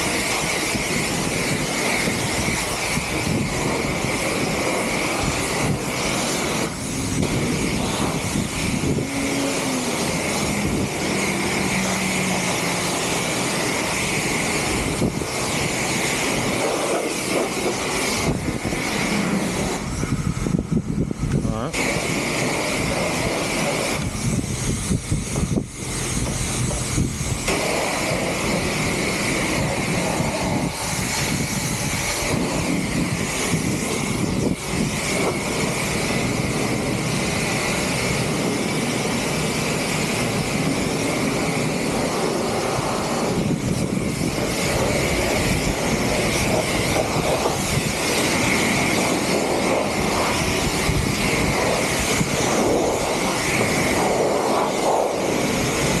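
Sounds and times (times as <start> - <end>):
high-pitched machine whine: 0.0 - 56.0
loud rushing noise: 0.0 - 56.0.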